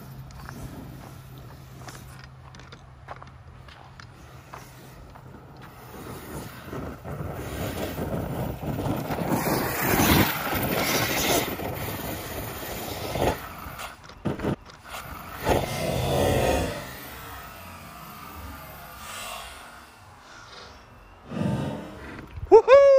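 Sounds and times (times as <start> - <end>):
electric rc truck motor whining: 4.1 - 22.5.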